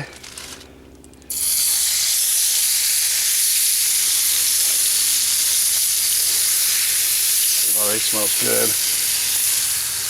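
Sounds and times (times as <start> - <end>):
chicken sizzling in a pan: 1.3 - 10.0.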